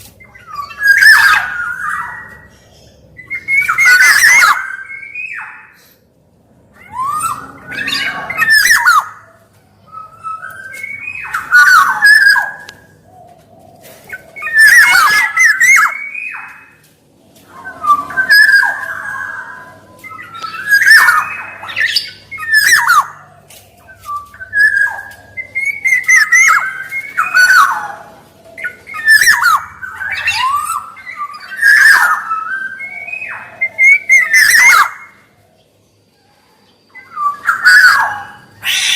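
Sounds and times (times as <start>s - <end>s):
bird fluty calls and squawks: 0.0s - 6.0s, 6.7s - 35.6s, 36.5s - 38.9s.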